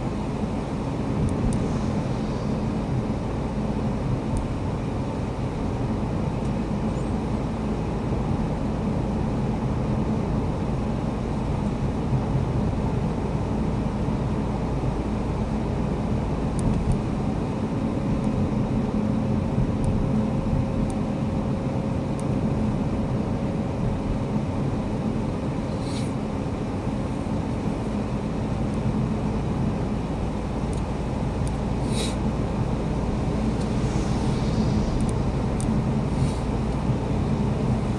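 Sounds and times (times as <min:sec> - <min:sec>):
car interior road and engine drone: 0:00.0 - 0:37.9
faint steady hum: 0:00.0 - 0:37.9.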